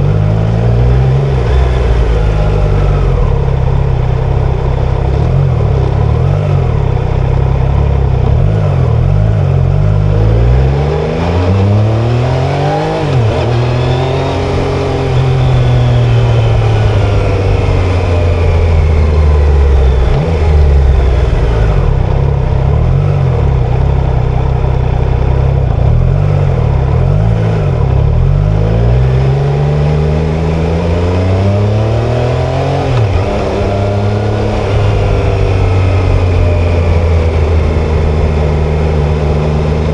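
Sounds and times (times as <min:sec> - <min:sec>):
motorcycle engine accelerating: 0:00.0 - 0:39.9
road noise rush: 0:00.0 - 0:39.9.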